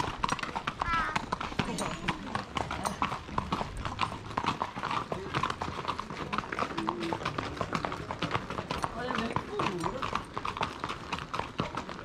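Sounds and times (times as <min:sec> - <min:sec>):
horse hooves on pavement: 0:00.0 - 0:12.0.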